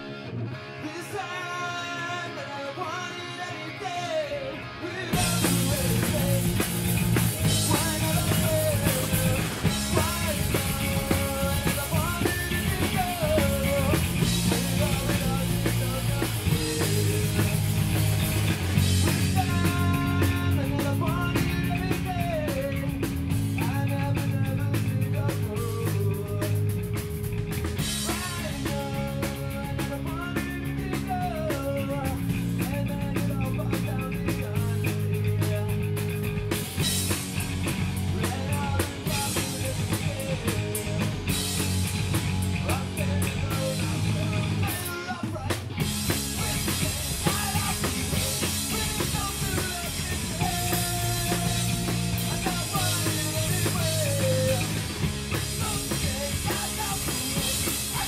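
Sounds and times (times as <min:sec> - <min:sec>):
bass guitar: 0:00.0 - 0:58.0
distorted electric guitars: 0:00.0 - 0:58.0
man singing: 0:00.7 - 0:18.2, 0:18.8 - 0:27.0, 0:27.8 - 0:37.0, 0:38.0 - 0:41.8, 0:42.5 - 0:58.0
drum kit: 0:04.6 - 0:58.0.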